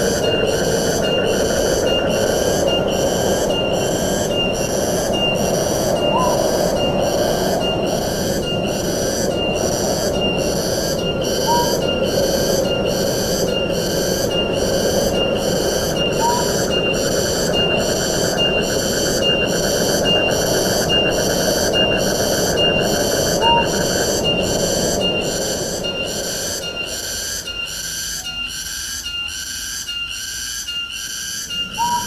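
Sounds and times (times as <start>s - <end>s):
pulsing insect chorus: 0.0s - 32.0s.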